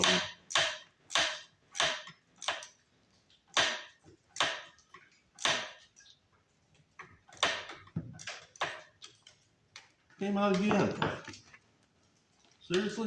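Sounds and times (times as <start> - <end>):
sharp clicks from wiring work: 0.0 - 12.9.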